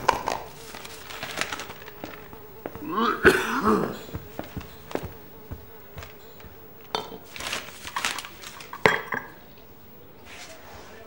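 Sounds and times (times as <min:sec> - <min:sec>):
fly buzzing: 0:00.0 - 0:11.0.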